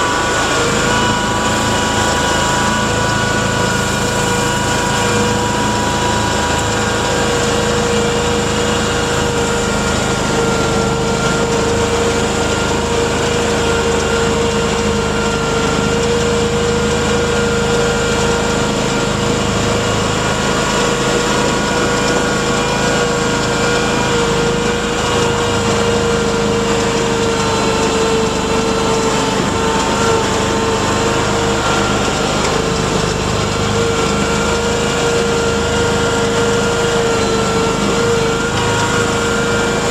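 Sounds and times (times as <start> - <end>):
vehicle engine running under load: 0.0 - 39.9.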